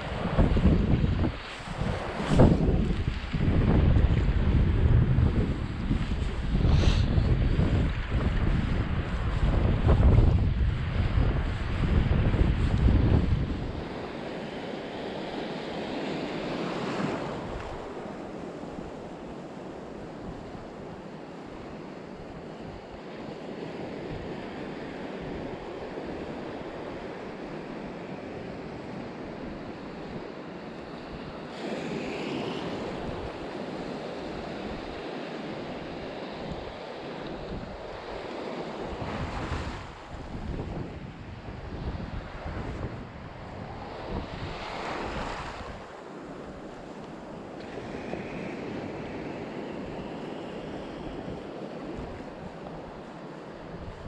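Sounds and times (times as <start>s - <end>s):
sea waves breaking: 0.0s - 54.0s
wind buffeting microphone: 0.0s - 54.0s.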